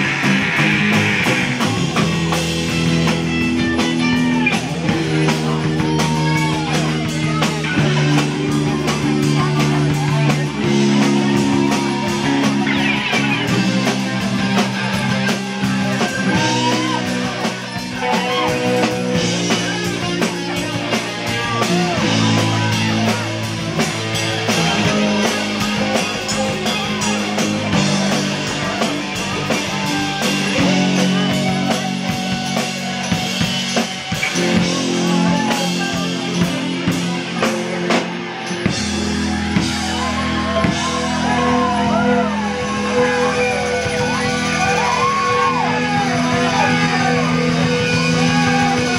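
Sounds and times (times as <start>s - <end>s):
bass guitar: 0.0s - 48.9s
live rock band playing: 0.0s - 48.9s.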